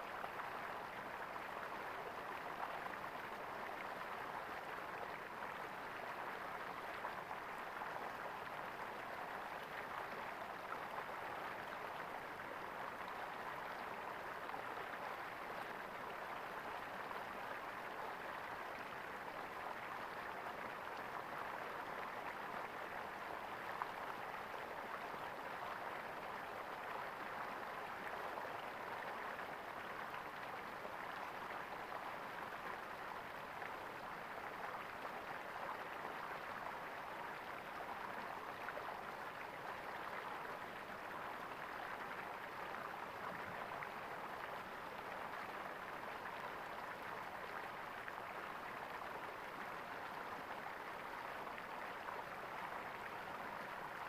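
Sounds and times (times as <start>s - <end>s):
stream water gurgling: 0.0s - 54.0s.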